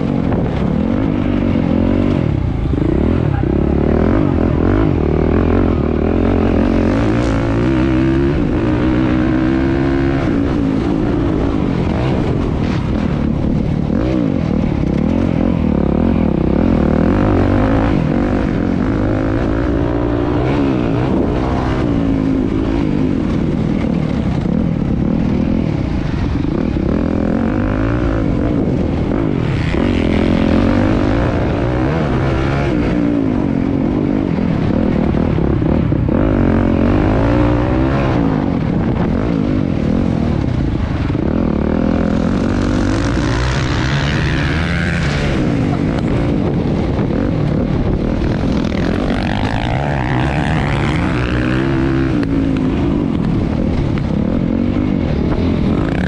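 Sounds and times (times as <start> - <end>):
motocross engines revving: 0.0 - 56.0.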